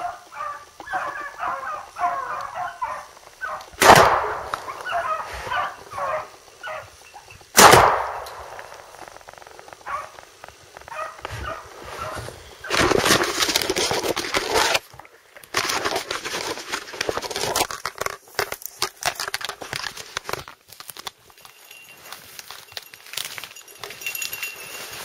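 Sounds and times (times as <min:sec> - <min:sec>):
branches crackling and snapping: 0:00.0 - 0:06.9, 0:07.5 - 0:25.0.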